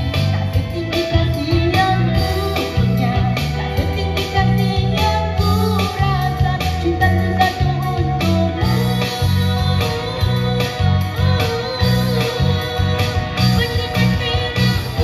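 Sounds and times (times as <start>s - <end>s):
bass line: 0.0s - 15.0s
drums: 0.0s - 15.0s
electric guitar: 0.0s - 15.0s
keyboard: 0.0s - 15.0s
woman singing: 0.0s - 15.0s.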